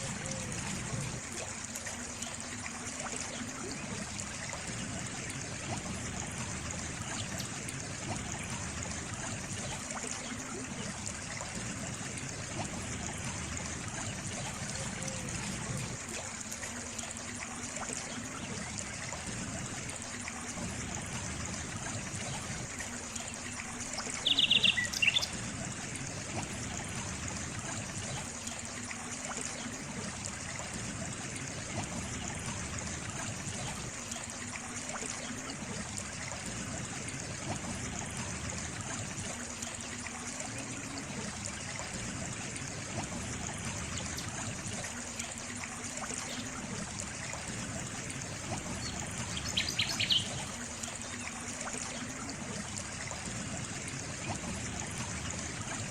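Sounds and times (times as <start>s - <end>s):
water trickling: 0.0s - 55.9s.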